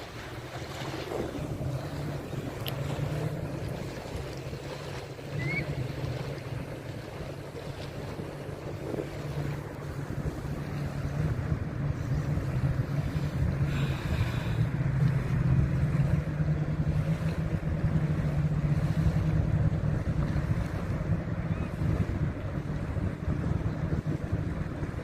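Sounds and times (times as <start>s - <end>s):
surf on a beach: 0.0s - 25.0s
wind buffeting microphone: 0.0s - 25.0s.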